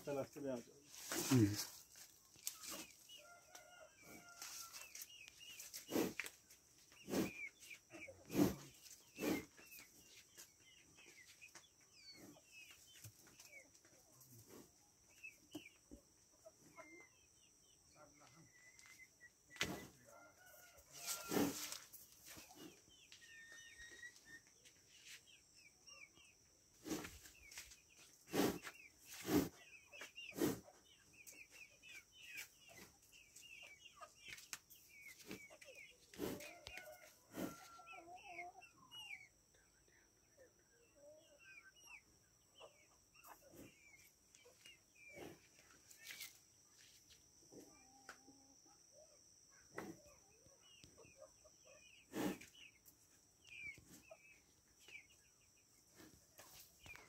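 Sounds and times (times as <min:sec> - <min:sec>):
chickens clucking: 0:00.0 - 0:57.0
small birds chirping: 0:00.0 - 0:57.0.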